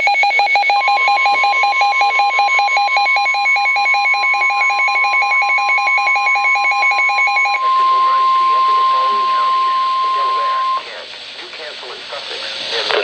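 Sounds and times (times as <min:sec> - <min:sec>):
rapid trilling beep: 0:00.0 - 0:10.9
steady alarm tone: 0:00.0 - 0:11.0.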